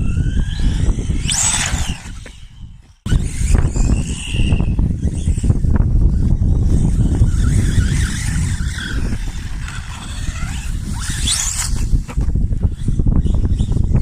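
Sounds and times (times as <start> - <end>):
electric rc car motor whining: 0.0 - 14.0.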